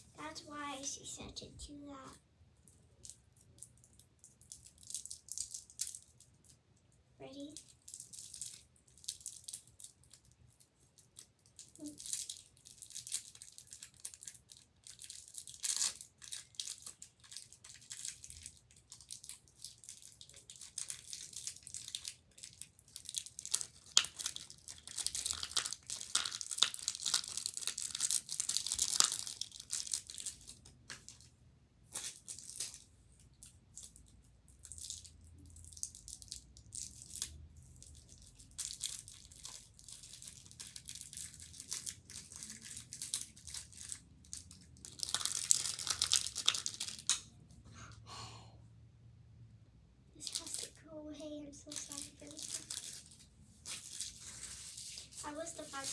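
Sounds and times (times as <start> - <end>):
cellophane wrapper crackling: 2.6 - 6.6, 7.4 - 31.3, 31.9 - 47.3, 50.2 - 50.8, 51.7 - 55.9.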